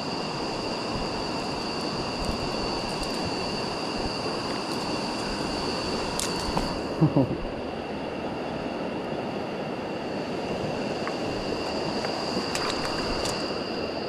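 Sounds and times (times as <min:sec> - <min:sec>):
steady high whine: 0:00.0 - 0:14.0.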